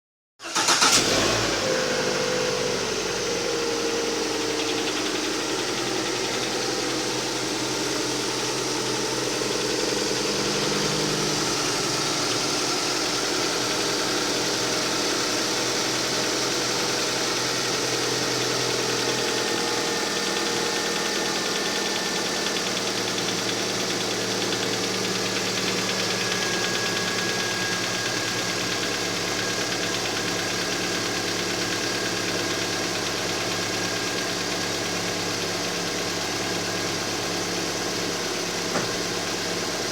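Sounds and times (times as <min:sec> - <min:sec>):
car engine idling with knock: 0:03.0 - 0:39.9.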